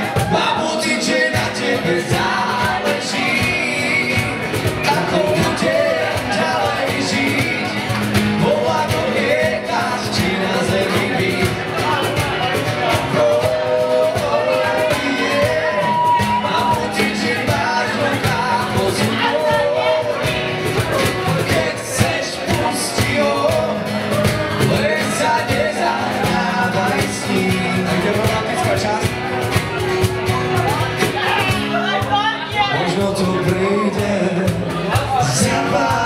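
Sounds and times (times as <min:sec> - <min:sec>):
man singing into a microphone: 0:00.0 - 0:29.4, 0:31.3 - 0:36.0
acoustic guitars strummed: 0:00.0 - 0:36.0
cajon beat: 0:00.0 - 0:36.0.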